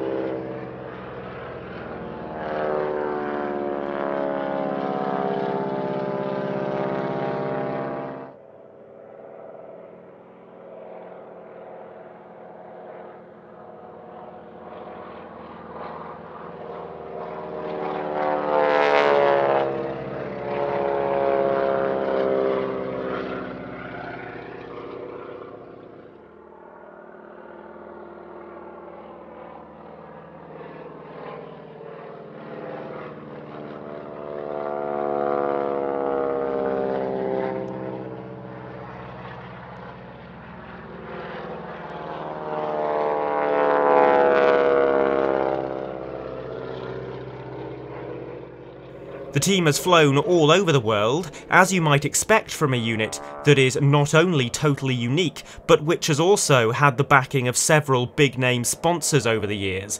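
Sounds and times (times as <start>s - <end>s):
biplanes roaring past: 0.0s - 59.9s.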